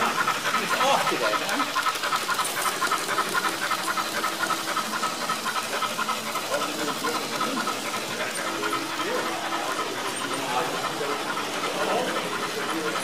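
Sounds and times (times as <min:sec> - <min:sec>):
model locomotive steam chuffs: 0:00.0 - 0:13.0.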